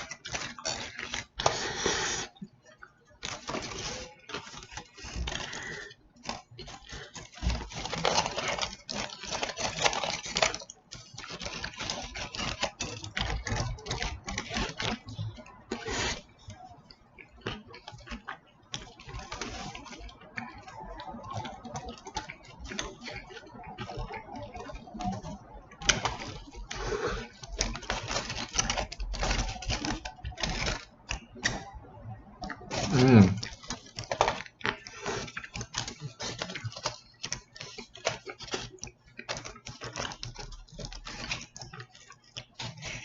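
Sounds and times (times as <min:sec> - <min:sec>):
foil wrapper crinkling: 0:00.0 - 0:31.6, 0:32.4 - 0:43.0
chewing and mouth noises: 0:00.0 - 0:43.0
eating sounds: 0:00.0 - 0:43.0.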